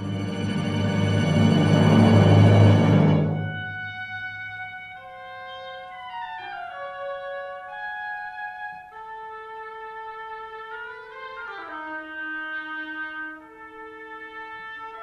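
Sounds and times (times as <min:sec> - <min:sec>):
contemporary classical music: 0:00.0 - 0:15.0.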